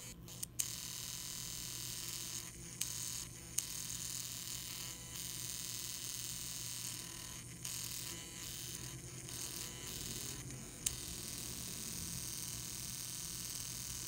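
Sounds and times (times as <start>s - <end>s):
tiny electric motor buzzing: 0.0s - 14.0s.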